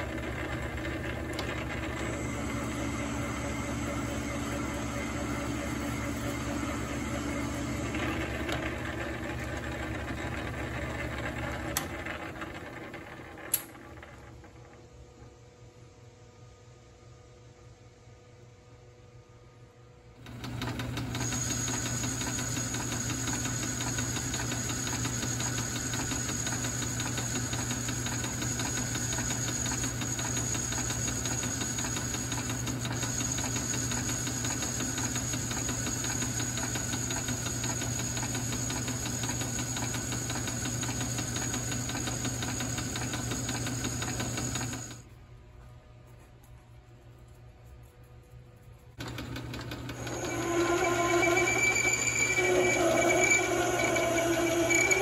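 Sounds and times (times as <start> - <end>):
metal lathe running: 0.0 - 14.1, 20.3 - 45.0, 49.0 - 55.0.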